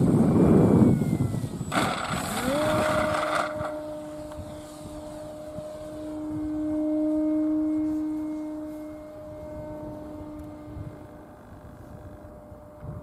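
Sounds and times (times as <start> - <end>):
model plane propeller drone: 0.0 - 13.0.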